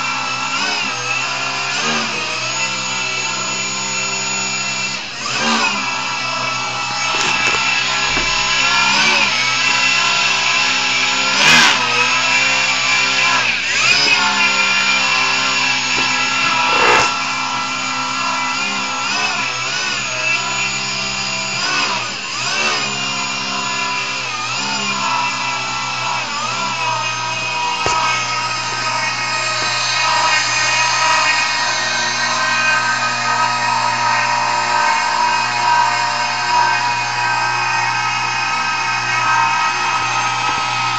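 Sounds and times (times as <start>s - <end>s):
electric motor whirring: 0.0s - 40.9s.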